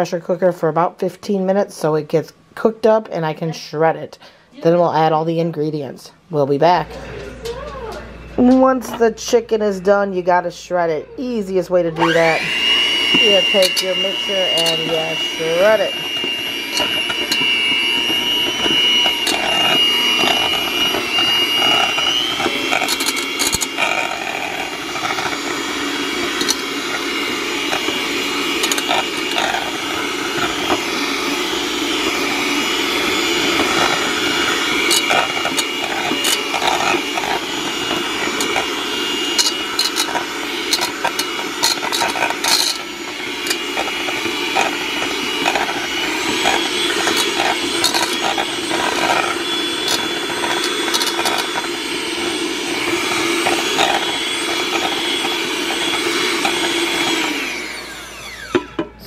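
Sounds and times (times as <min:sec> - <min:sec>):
hand mixer motor whine: 0:06.9 - 0:59.0.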